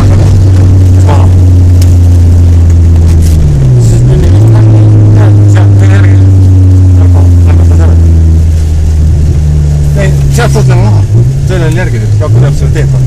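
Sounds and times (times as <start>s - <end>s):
car engine pulling hard: 0.0s - 13.0s.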